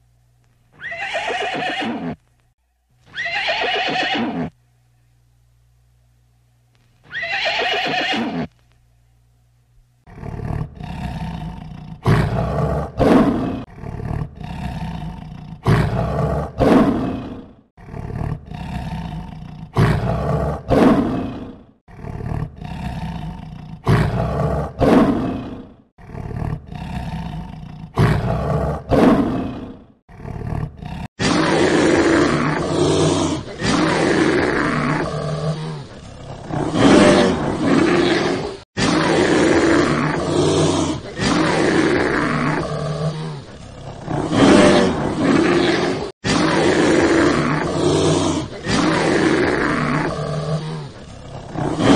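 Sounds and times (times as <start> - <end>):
bears roaring: 10.1 - 51.9
lion roaring: 10.1 - 51.9.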